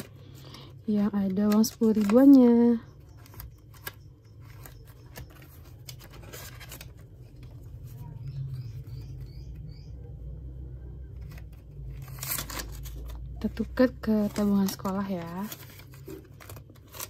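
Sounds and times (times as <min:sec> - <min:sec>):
paper banknotes rustling: 0:00.0 - 0:09.3, 0:11.1 - 0:17.0.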